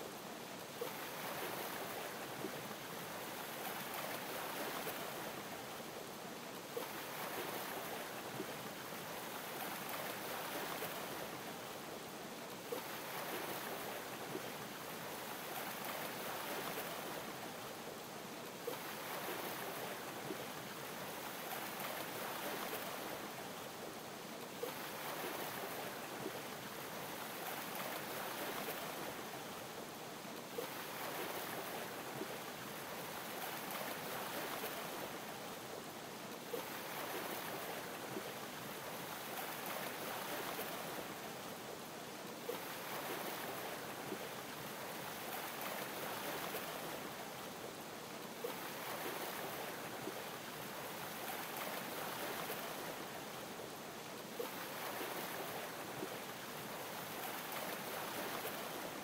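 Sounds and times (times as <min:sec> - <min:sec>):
ocean waves lapping: 0:00.8 - 0:05.5, 0:06.7 - 0:11.5, 0:12.7 - 0:17.5, 0:18.5 - 0:23.6, 0:24.6 - 0:35.5, 0:36.4 - 0:41.5, 0:42.3 - 0:47.5, 0:48.1 - 0:53.3, 0:54.2 - 0:59.0.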